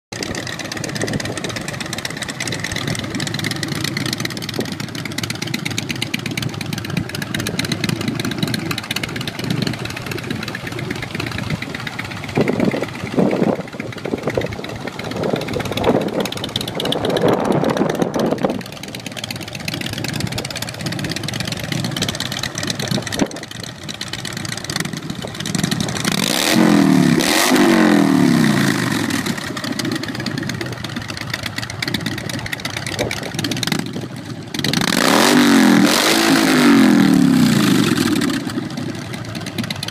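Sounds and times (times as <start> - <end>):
motorcycle engine idling and revving: 0.1 - 39.9.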